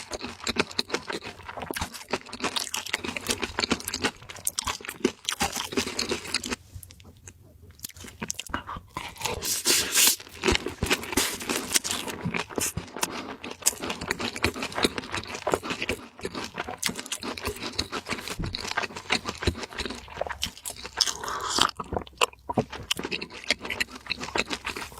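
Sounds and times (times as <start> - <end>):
crunching bites and chewing: 0.0 - 24.9.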